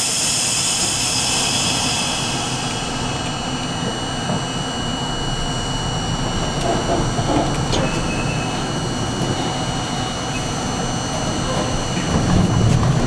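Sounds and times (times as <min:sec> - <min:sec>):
faint high whine: 0:00.0 - 0:12.2
train wheels rumbling: 0:00.0 - 0:13.0.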